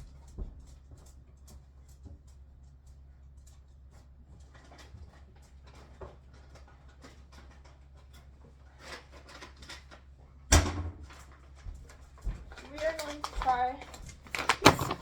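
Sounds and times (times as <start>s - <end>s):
light clicks and rustles of handling: 0.0s - 10.4s, 11.0s - 15.0s.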